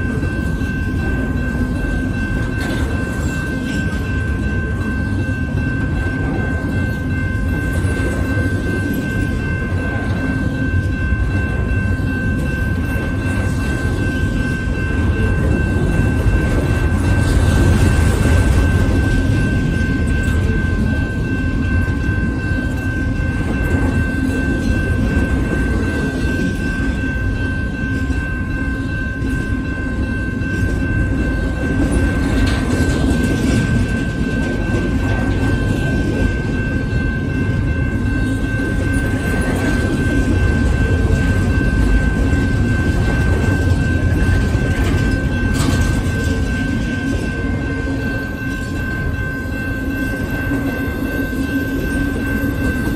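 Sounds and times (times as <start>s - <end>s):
crossing bell ringing: 0.0s - 52.9s
train cars clanking: 0.0s - 52.9s
train wheels rumbling on rail: 0.0s - 52.9s.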